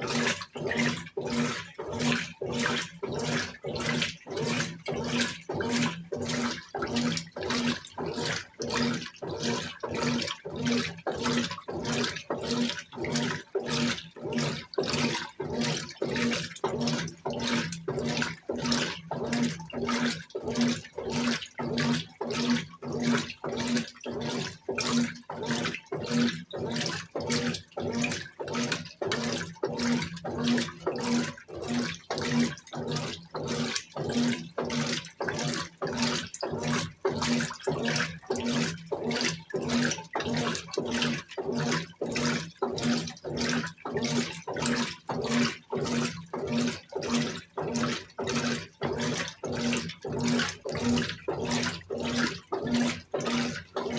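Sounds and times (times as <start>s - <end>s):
washing machine agitating water: 0.0s - 53.9s.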